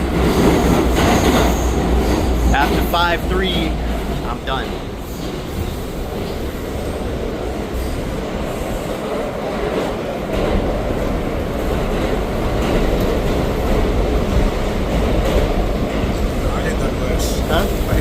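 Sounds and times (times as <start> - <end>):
subway car wheels rumbling on rail: 0.0 - 18.0.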